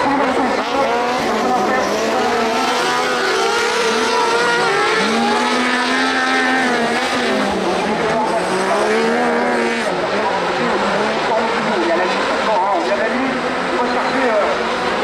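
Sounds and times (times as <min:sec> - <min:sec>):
buggy engines revving: 0:00.0 - 0:15.0.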